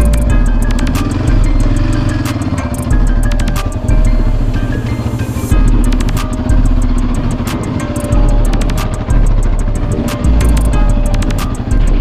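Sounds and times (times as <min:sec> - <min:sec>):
music with heavy bass: 0:00.0 - 0:12.0
sharp percussion hits: 0:00.0 - 0:12.0.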